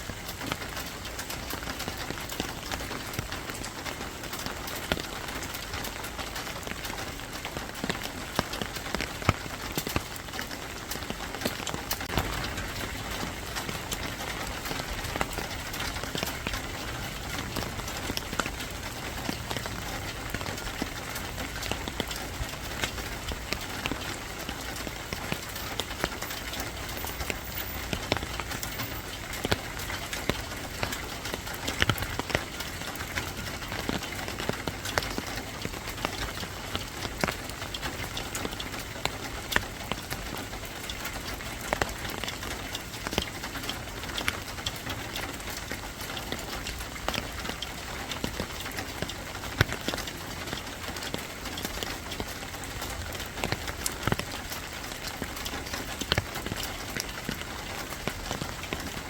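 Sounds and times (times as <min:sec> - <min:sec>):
raindrops tapping on hard surface: 0:00.0 - 0:59.0.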